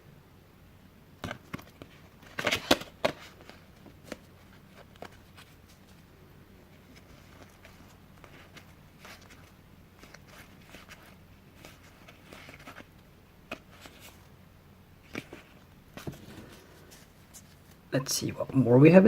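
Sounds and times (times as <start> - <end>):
cards rustling: 1.3 - 14.3, 15.0 - 17.8.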